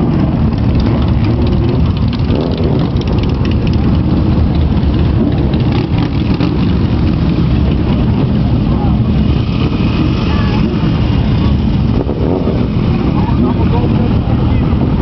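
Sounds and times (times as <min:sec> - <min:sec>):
loud motorcycle engine: 0:00.0 - 0:15.0.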